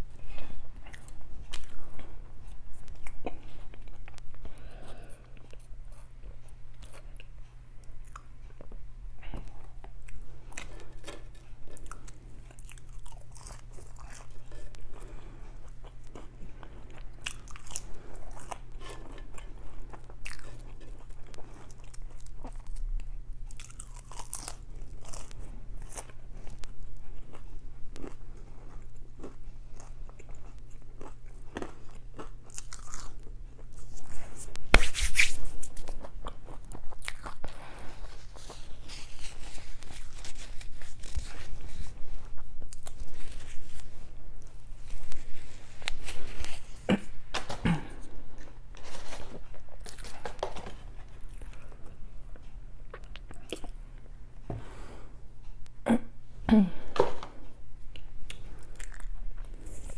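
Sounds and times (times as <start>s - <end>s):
steady low hum: 0.0s - 59.9s
chewing with crunches: 0.2s - 34.6s, 35.6s - 54.1s, 57.9s - 59.9s.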